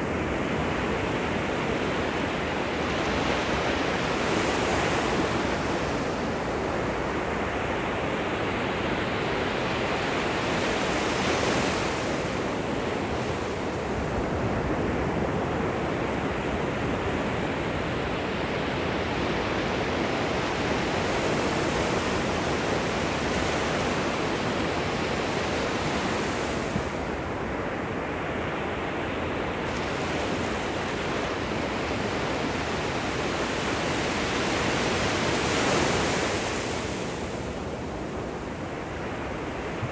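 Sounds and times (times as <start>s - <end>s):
ocean surf washing ashore: 0.0s - 39.9s.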